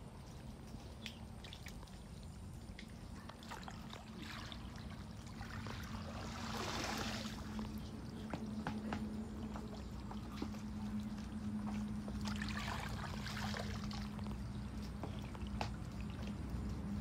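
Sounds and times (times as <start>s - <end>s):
steady low hum: 0.0s - 17.0s
fish splashing in shallow water: 0.5s - 16.5s.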